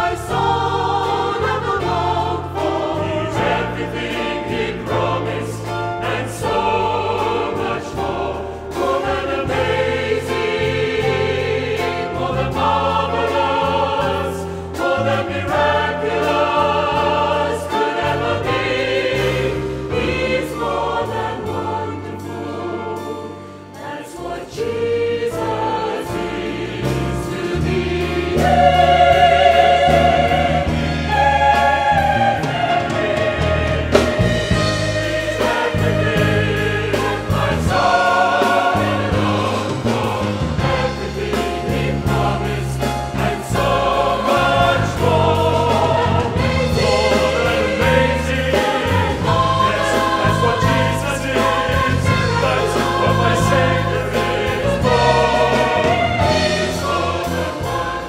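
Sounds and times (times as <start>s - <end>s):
choir singing a hymn: 0.0s - 58.0s
instrumental accompaniment: 0.0s - 58.0s.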